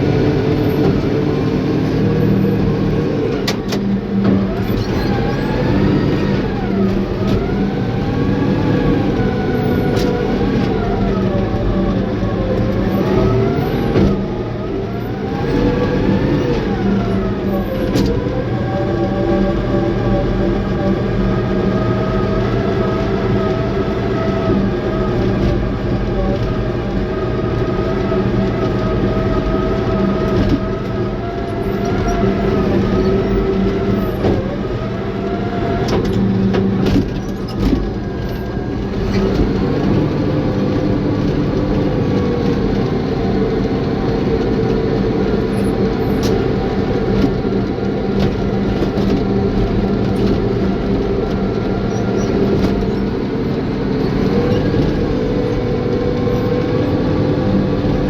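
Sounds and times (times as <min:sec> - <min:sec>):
bulldozer diesel engine running: 0:00.0 - 0:58.0
clanks and knocks of tracks: 0:00.0 - 0:58.0.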